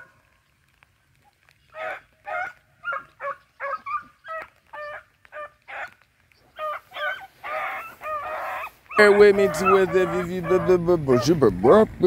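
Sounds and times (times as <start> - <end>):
hounds barking: 1.7 - 11.5.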